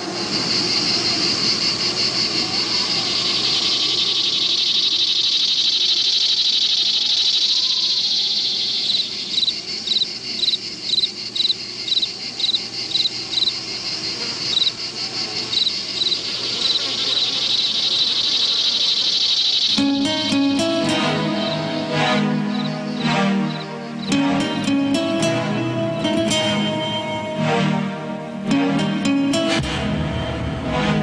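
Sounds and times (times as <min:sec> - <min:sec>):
cricket chirping: 0:00.0 - 0:29.5
crickets buzzing chorus: 0:00.0 - 0:30.1.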